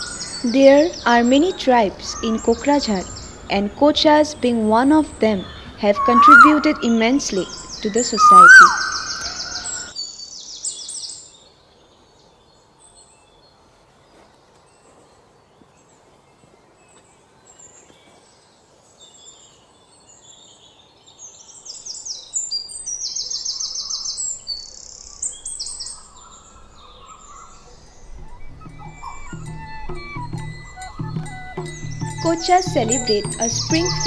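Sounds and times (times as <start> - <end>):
birds chirping in trills: 0.0 - 13.6, 15.2 - 34.0.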